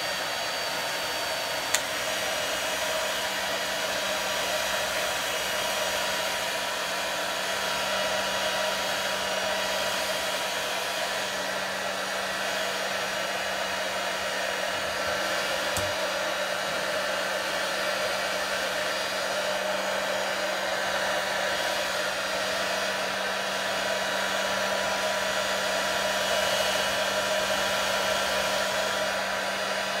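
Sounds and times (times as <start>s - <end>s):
hair dryer blowing: 0.0s - 30.0s.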